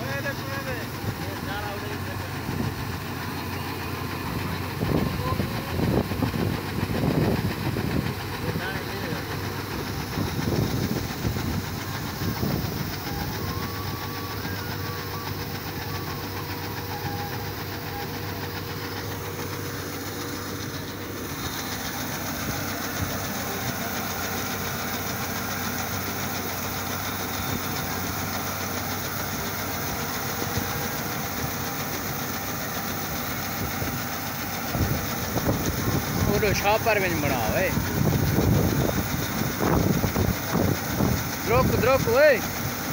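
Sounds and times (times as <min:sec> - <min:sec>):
combine harvester engine hum: 0:00.0 - 0:42.9.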